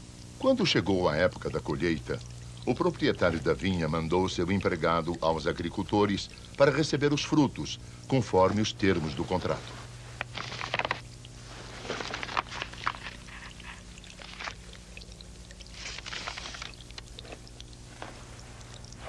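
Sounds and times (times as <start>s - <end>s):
fountain water trickling and splashing: 0.0s - 19.0s
steady low hum: 0.0s - 19.0s.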